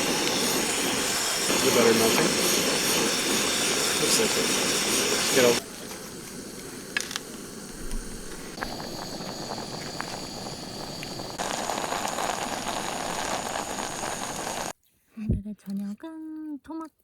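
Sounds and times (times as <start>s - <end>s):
gas burner hissing: 0.0s - 14.7s.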